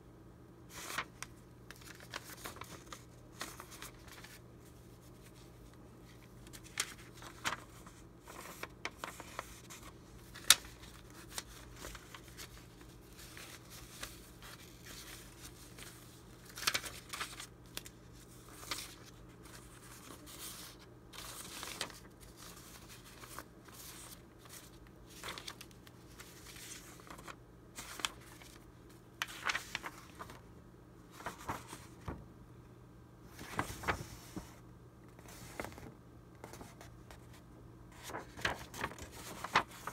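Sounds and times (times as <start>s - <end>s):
paper rustling and crinkling: 0.7s - 30.5s, 31.1s - 32.3s, 33.3s - 35.9s, 36.5s - 39.9s
sharp paper crackles: 0.7s - 30.5s, 31.1s - 32.2s, 33.4s - 34.5s, 38.0s - 39.9s.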